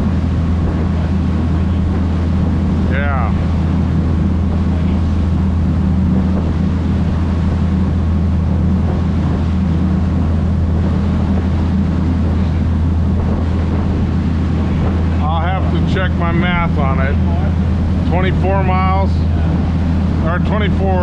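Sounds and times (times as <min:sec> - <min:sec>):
boat engine droning: 0:00.0 - 0:21.0
wind noise on microphone: 0:00.0 - 0:21.0.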